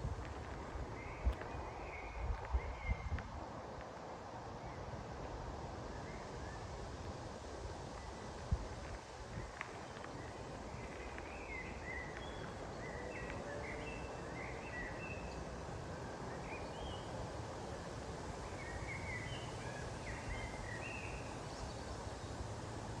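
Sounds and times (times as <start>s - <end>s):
wind-like rumble: 0.0s - 23.0s.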